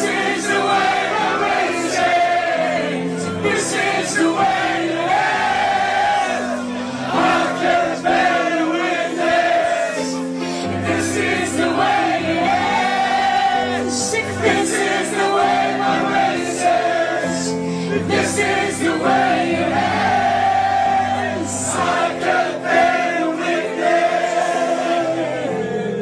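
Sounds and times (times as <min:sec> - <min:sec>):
choir-like singing: 0:00.0 - 0:26.0
held layered chords: 0:00.0 - 0:26.0.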